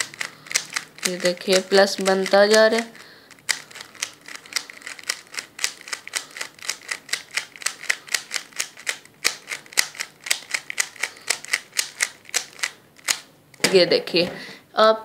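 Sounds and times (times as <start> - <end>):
plastic puzzle cube clicking: 0.0 - 13.7.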